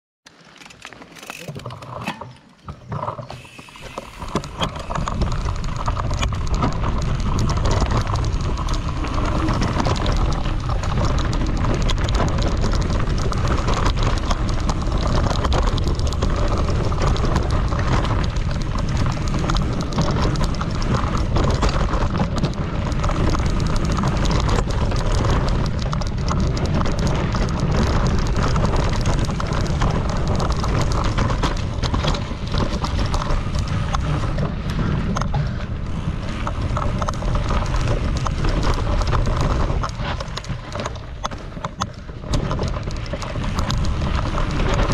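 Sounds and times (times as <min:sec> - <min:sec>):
bike rattling over bumps: 0:00.3 - 0:44.9
tyres crunching on dirt: 0:00.3 - 0:44.9
wind rushing over microphone: 0:03.8 - 0:44.9.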